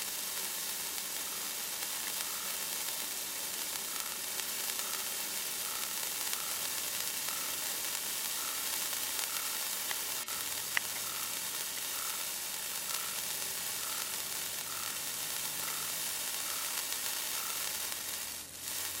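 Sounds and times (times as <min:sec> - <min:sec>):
sparkler hissing sizzle: 0:00.0 - 0:19.0.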